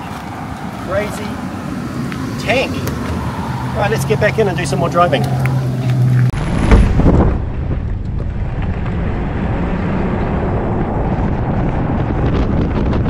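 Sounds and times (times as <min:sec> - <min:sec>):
wind buffeting microphone: 0:00.0 - 0:13.0
rushing air: 0:00.2 - 0:13.0.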